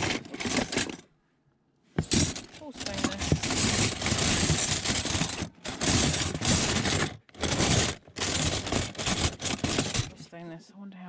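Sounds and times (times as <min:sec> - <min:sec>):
metal cutlery clattering: 0:00.0 - 0:01.0, 0:02.0 - 0:10.2.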